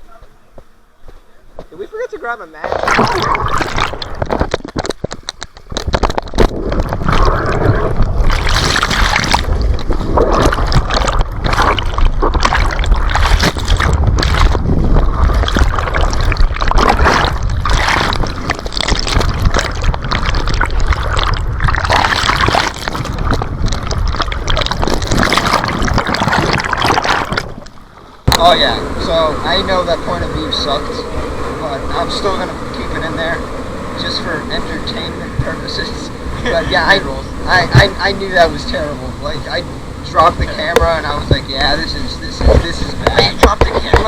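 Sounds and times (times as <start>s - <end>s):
water rushing and splashing: 2.2s - 44.0s
heavy rumbling buffeting: 2.6s - 44.0s.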